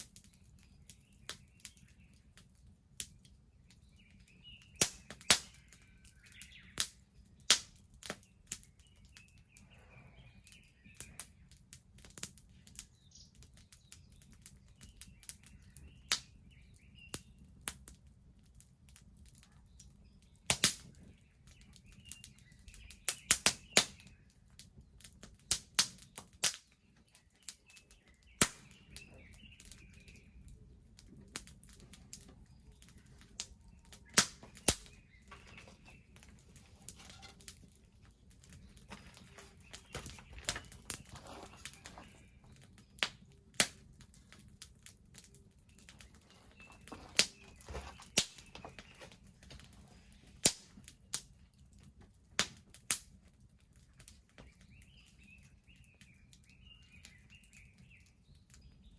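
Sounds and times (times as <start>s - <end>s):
bonfire crackling and popping: 0.0s - 9.6s, 10.2s - 58.9s
birds chirping: 0.0s - 18.2s, 19.2s - 51.8s, 53.8s - 58.9s.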